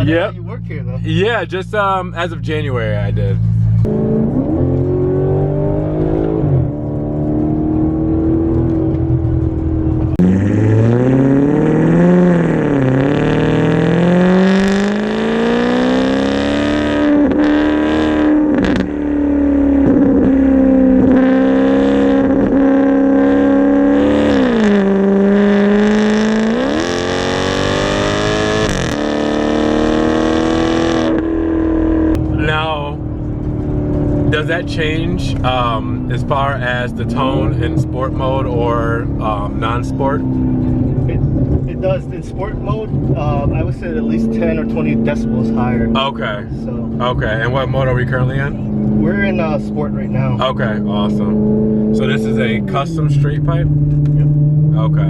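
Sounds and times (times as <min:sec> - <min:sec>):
car engine exhaust revving: 0:00.0 - 0:55.0.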